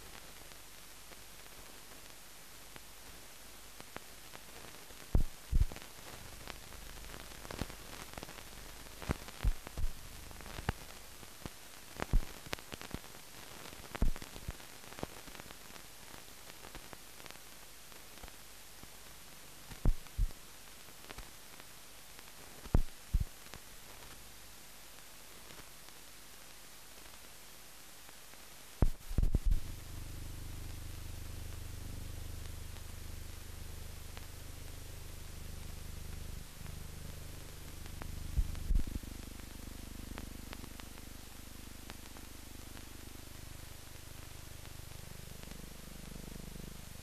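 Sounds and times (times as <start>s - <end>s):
film soundtrack hiss: 0.0s - 47.0s.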